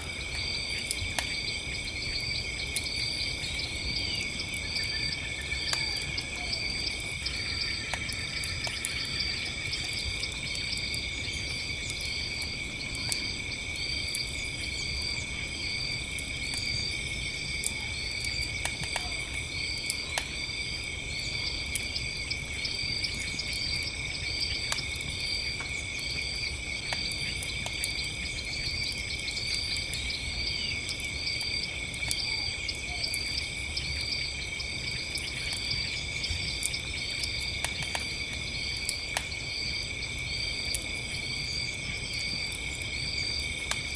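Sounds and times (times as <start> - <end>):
campfire crackling and snapping: 0.0 - 43.9
crickets trilling: 0.0 - 43.9
insect chirping rhythmically: 0.0 - 43.9.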